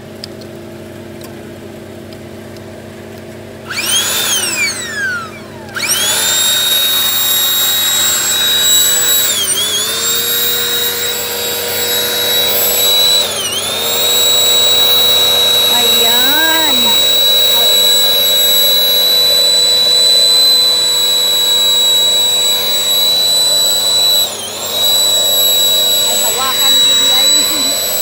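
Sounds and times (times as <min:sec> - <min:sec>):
air pump motor whining: 0:03.3 - 0:28.0.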